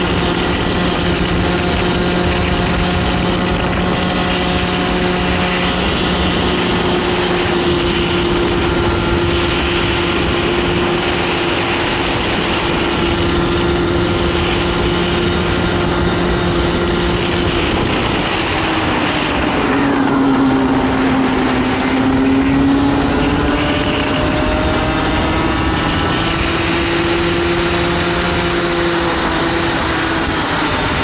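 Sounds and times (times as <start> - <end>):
kart engine at high revs: 0.0 - 31.0
wind and road noise: 0.0 - 31.0.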